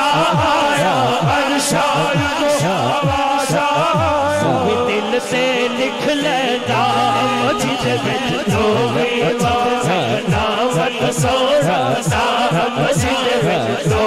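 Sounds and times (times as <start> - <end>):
man singing through microphone: 0.0 - 14.0.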